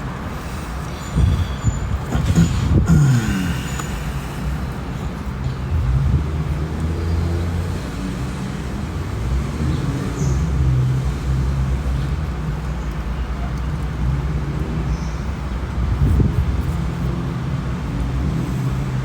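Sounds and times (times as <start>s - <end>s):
road noise: 0.0s - 19.0s
vehicle engine running: 0.0s - 19.0s.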